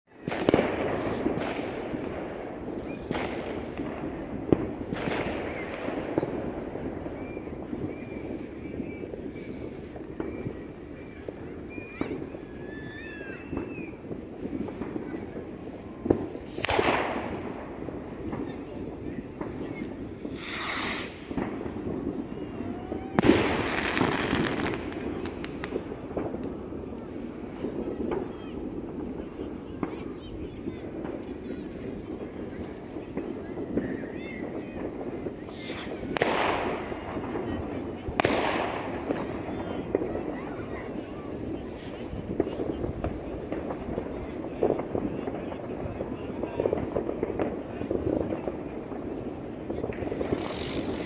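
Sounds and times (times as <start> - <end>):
fireworks bangs: 0.1 - 51.0
fireworks crackle: 0.1 - 51.0.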